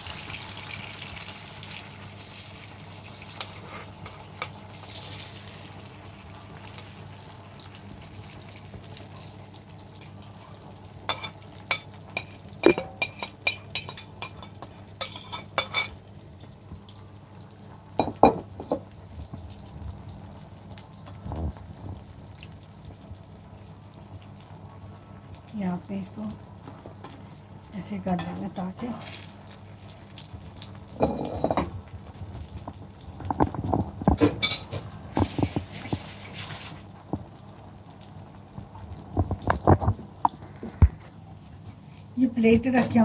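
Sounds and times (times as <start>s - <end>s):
egg sizzling in hot oil: 0.0s - 43.0s.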